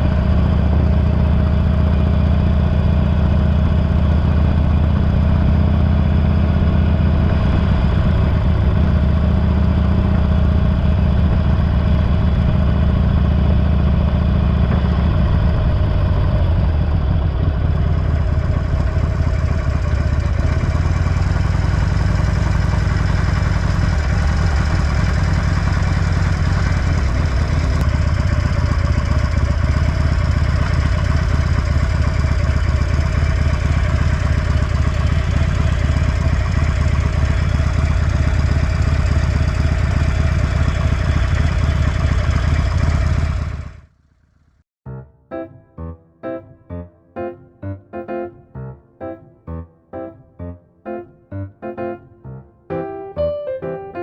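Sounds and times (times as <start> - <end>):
motorcycle engine idling: 0.0 - 44.6.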